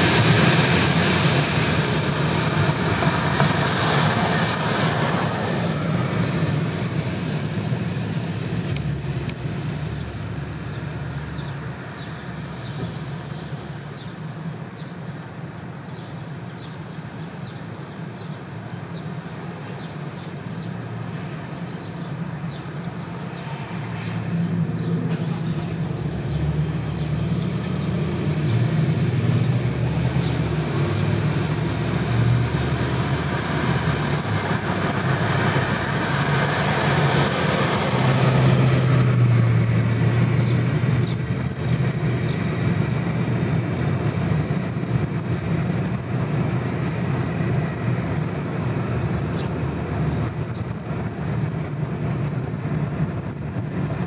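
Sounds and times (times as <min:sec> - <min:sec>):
car road and engine hum: 0:00.0 - 0:15.6, 0:20.6 - 0:54.0.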